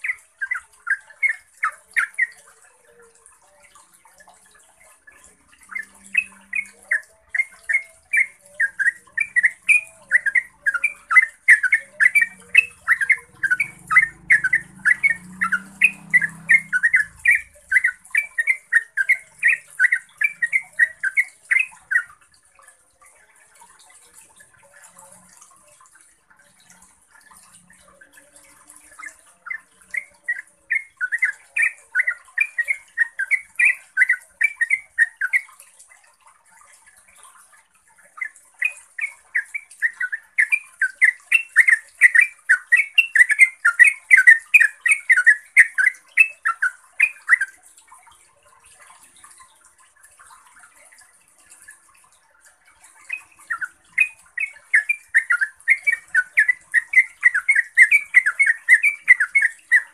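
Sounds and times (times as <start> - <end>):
bird singing bubbling song: 0.0 - 59.9.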